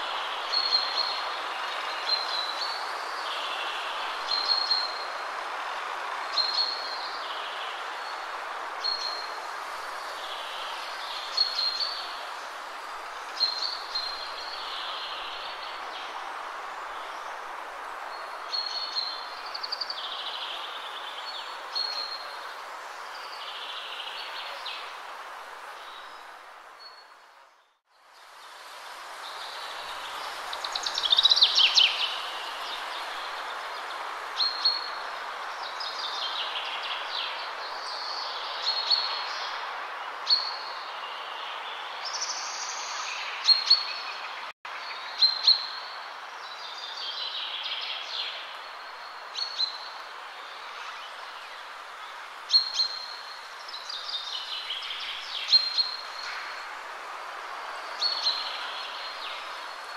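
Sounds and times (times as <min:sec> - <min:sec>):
songbirds singing: 0:00.0 - 0:28.4, 0:29.2 - 0:59.9
steady background hiss: 0:00.0 - 0:59.9.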